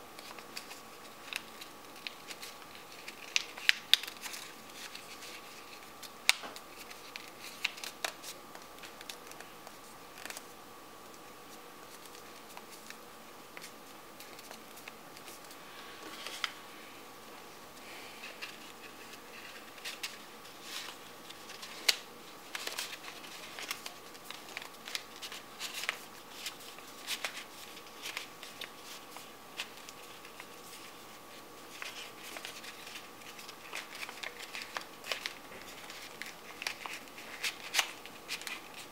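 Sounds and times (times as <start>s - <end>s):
faint steady hum: 0.0s - 38.9s
paper rustling and crackling: 0.2s - 10.5s, 11.1s - 16.7s, 17.7s - 38.9s.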